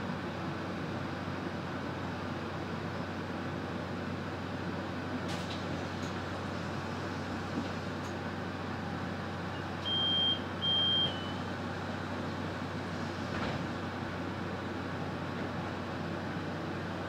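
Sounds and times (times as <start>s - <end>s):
bus interior rumble and hum: 0.0s - 17.0s.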